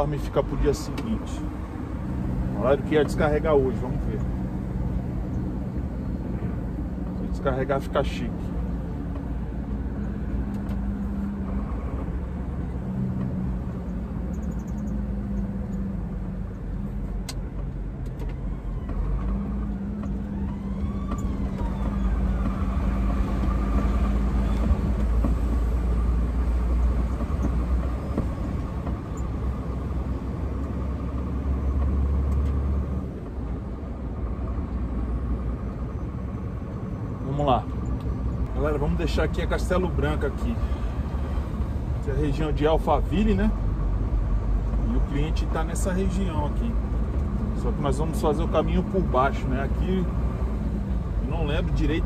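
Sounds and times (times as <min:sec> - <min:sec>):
road noise: 0:00.0 - 0:52.0
truck diesel engine hum: 0:00.0 - 0:52.0.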